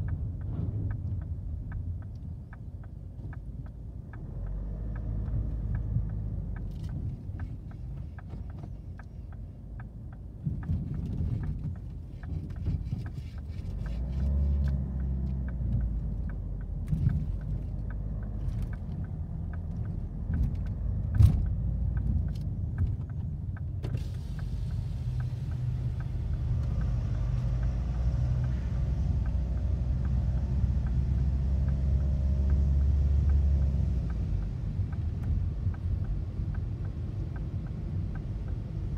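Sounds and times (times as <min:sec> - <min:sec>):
faint regular ticking: 0:00.0 - 0:38.9
low rumble inside car: 0:00.0 - 0:38.9.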